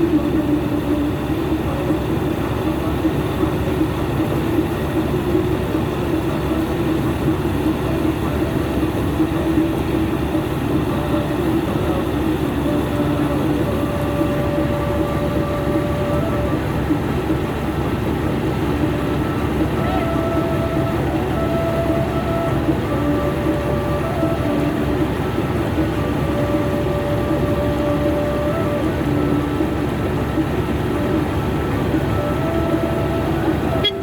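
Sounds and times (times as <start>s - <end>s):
harvesting machine engine running: 0.0s - 34.0s.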